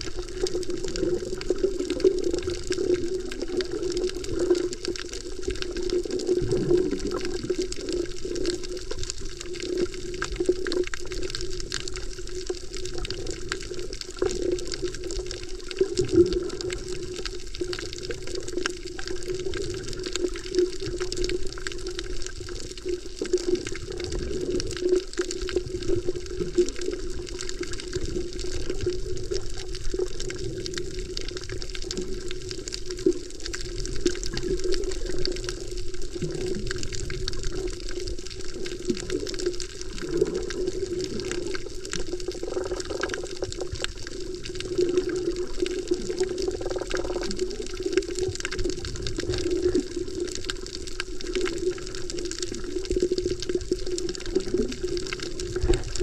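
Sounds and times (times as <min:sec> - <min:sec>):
fine crackle of tiny clicks: 0:00.0 - 0:56.0
muffled underwater wash: 0:00.0 - 0:56.0.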